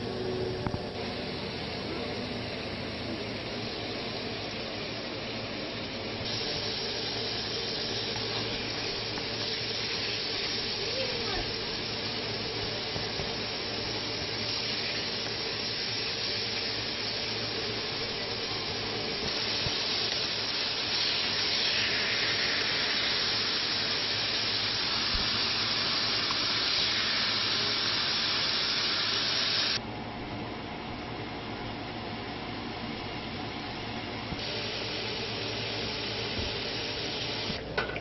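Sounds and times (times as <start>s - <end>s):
chicken sizzling in hot oil: 0.0s - 29.8s, 34.4s - 37.6s.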